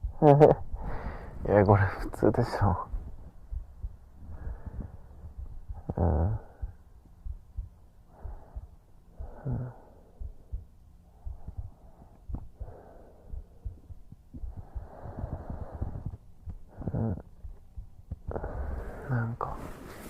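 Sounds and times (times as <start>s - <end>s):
heartbeat thuds: 0.0s - 19.6s
man breathing slowly: 0.7s - 1.5s, 3.0s - 20.0s.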